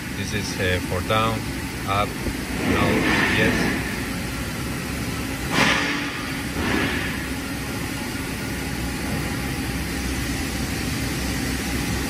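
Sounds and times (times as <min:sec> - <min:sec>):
lathe and machinery humming: 0:00.0 - 0:12.0.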